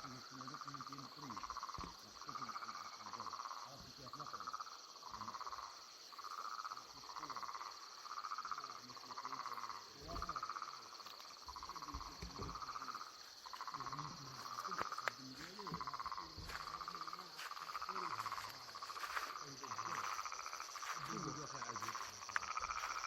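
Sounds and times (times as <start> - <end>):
frogs croaking: 0.0 - 23.0
insect chirring: 0.0 - 23.0.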